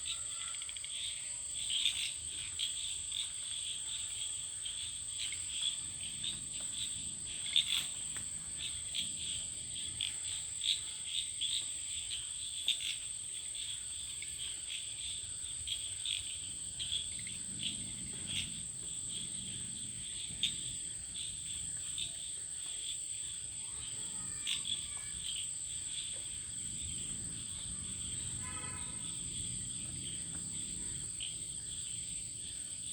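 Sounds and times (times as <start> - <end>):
crickets chirping: 0.0 - 32.9
high insect drone: 0.0 - 32.9.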